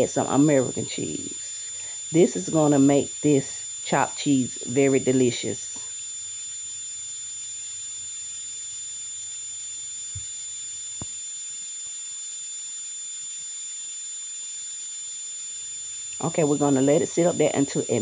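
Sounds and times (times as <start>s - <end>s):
high-pitched electrical whine: 0.0s - 18.0s.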